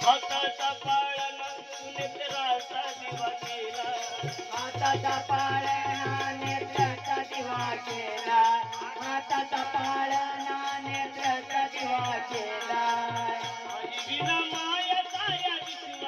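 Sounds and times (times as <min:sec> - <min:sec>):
rhythmic percussion beat: 0:00.0 - 0:16.0.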